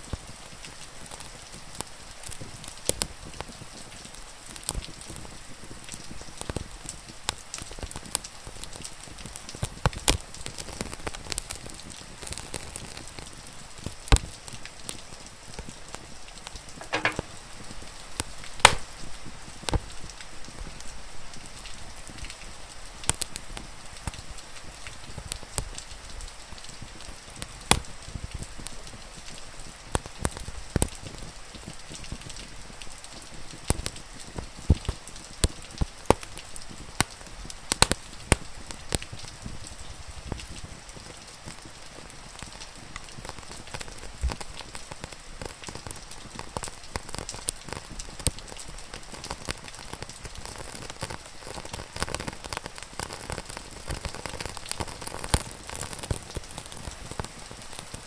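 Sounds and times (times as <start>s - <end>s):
steady rain hissing: 0.0s - 58.0s
wood fire crackling: 0.1s - 58.0s.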